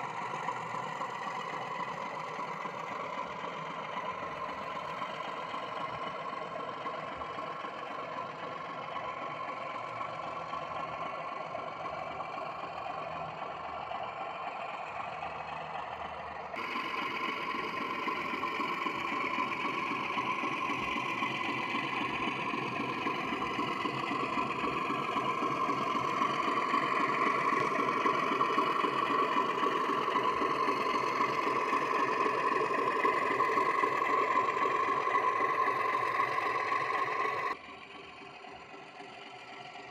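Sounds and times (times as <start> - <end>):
diesel engine sound from speaker: 0.0 - 39.9.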